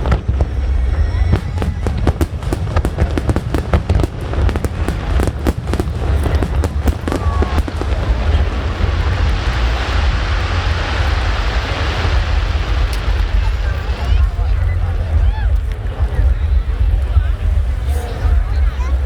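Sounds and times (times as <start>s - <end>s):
fireworks bangs: 0.0s - 18.7s
fireworks crackling: 0.0s - 19.0s
low rumble: 0.0s - 19.0s.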